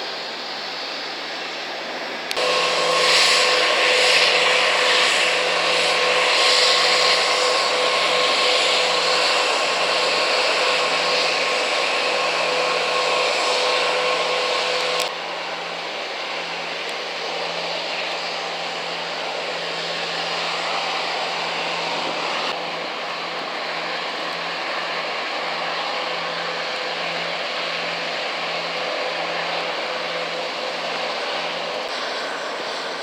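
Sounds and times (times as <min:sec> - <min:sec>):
jet engine whine: 0:00.0 - 0:33.0
jet engines rushing hiss: 0:00.0 - 0:33.0.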